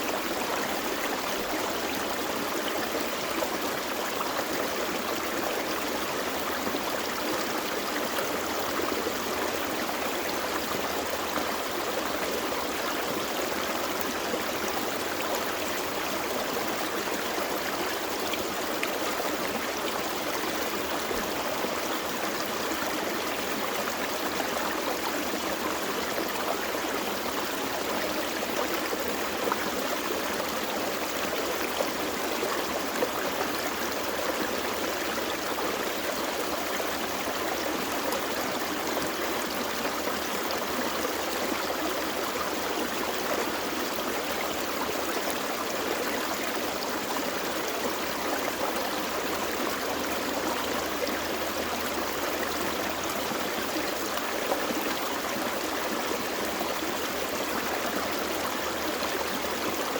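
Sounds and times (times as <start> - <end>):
creek water flowing over stones: 0.0 - 59.9.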